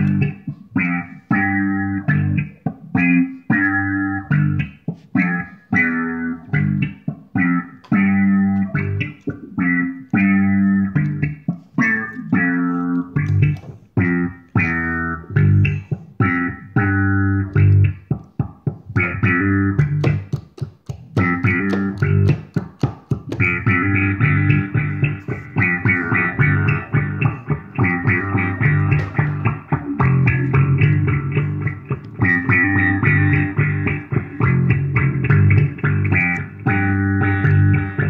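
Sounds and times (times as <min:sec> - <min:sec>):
electric bass riff: 0:00.0 - 0:20.4, 0:21.0 - 0:38.0.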